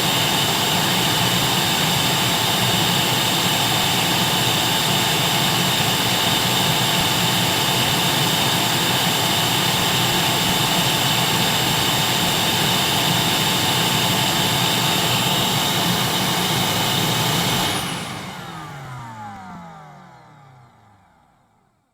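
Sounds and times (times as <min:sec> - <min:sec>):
vacuum cleaner whine: 0:00.0 - 0:21.9.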